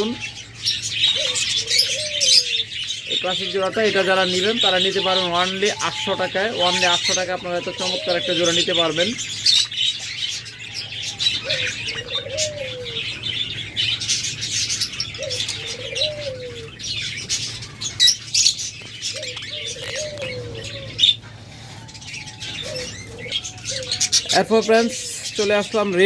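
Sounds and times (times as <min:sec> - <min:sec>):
dove cooing: 0:00.0 - 0:09.4, 0:10.6 - 0:26.0
budgerigars chirping: 0:00.0 - 0:26.0.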